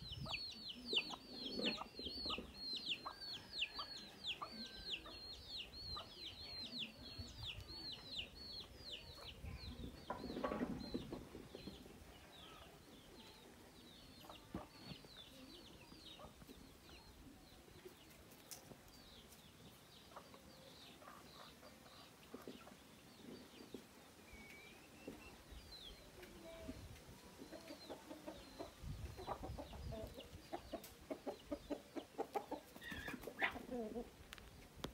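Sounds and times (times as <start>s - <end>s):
chickens clucking softly: 0.0s - 24.2s, 25.1s - 34.9s.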